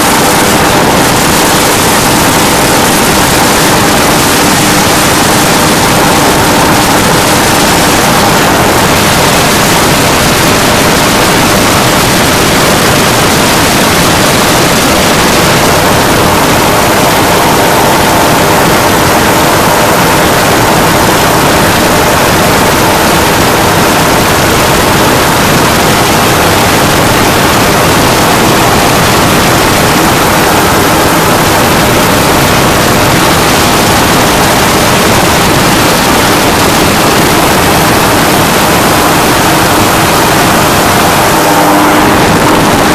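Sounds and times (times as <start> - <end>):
engine and propeller running: 0.0 - 42.9
wind rush on microphone: 0.0 - 42.9.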